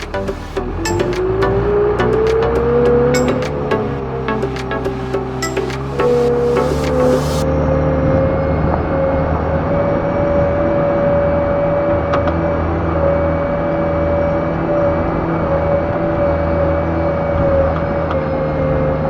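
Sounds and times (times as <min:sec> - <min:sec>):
steady whine: 0:00.0 - 0:16.2
loader engine running: 0:00.0 - 0:18.1.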